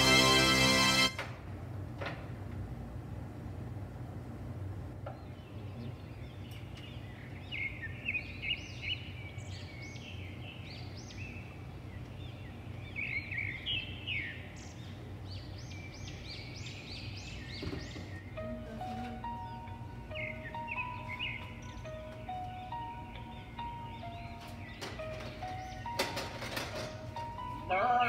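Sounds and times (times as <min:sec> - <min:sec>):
steady low hum: 0:00.0 - 0:28.0
birds chirping: 0:05.1 - 0:28.0.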